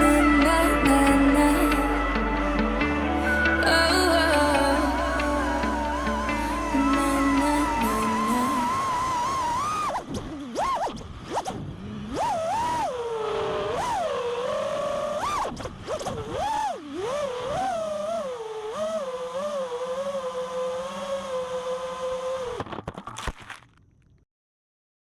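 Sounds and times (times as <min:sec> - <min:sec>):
quadcopter motors whining: 0:00.0 - 0:22.7.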